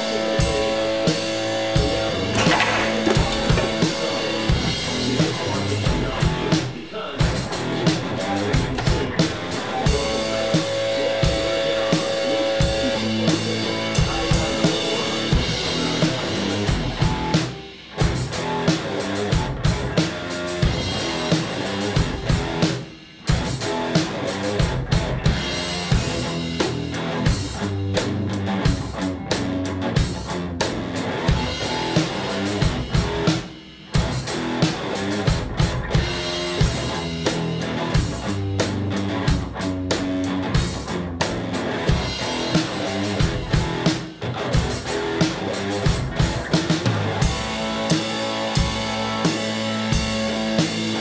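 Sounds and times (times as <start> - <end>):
background music with drum beat: 0.0 - 51.0.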